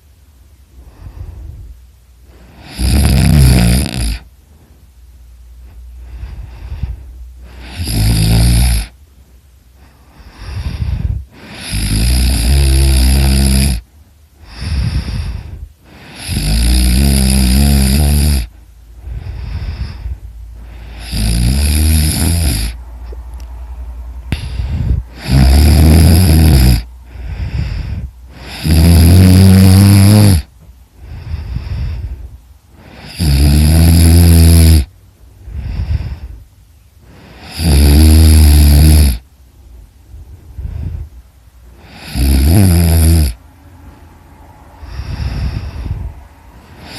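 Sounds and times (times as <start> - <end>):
quiet breathing: 0.0 - 46.9
person snoring heavily: 0.8 - 4.4, 5.6 - 9.0, 9.8 - 23.2, 24.2 - 39.3, 40.5 - 43.4, 44.8 - 46.9.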